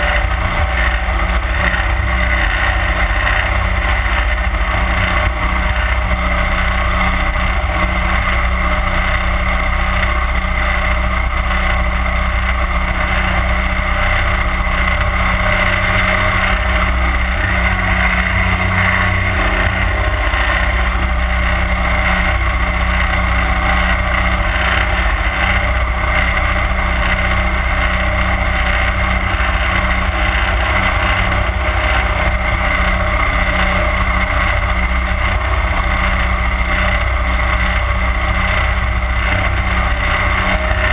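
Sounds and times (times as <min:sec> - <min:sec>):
boat motor running: 0:00.0 - 0:40.9.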